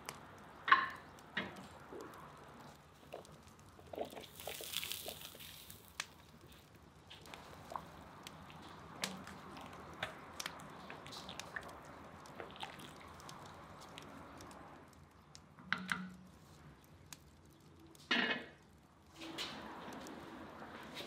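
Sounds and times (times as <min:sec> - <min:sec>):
broth bubbling and popping: 0:00.0 - 0:21.0.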